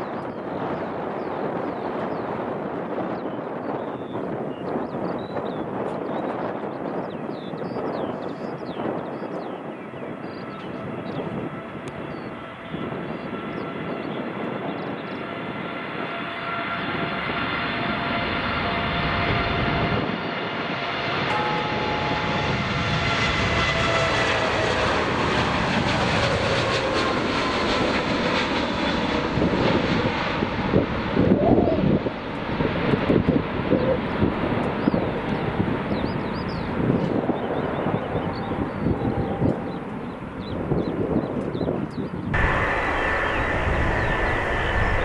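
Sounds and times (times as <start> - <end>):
jet engines rumbling and whining: 0.0 - 45.0.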